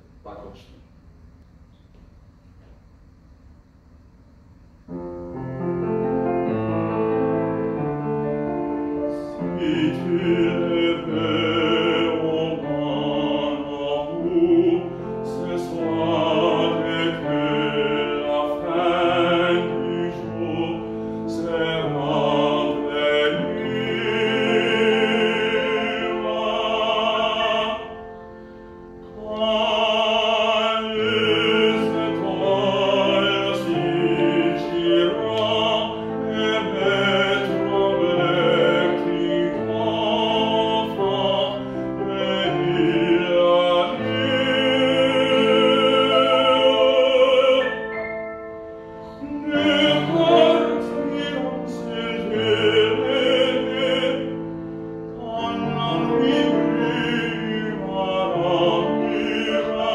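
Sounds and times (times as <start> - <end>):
piano accompaniment: 4.9 - 59.9
baritone singing classical song: 6.2 - 28.2, 29.0 - 48.4, 49.2 - 59.9.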